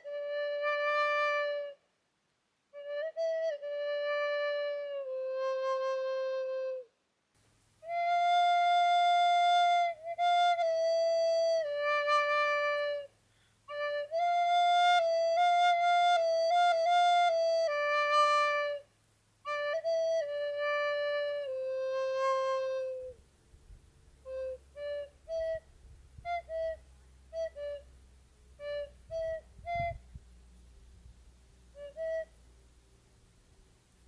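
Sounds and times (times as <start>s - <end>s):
solo flute-like melody: 0.0s - 1.9s, 2.7s - 7.0s, 7.8s - 23.3s, 24.1s - 30.6s, 31.7s - 32.7s.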